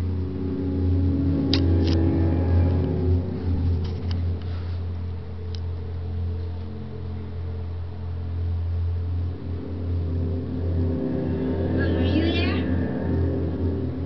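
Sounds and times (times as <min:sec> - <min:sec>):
tense film soundtrack drone: 0:00.0 - 0:14.0.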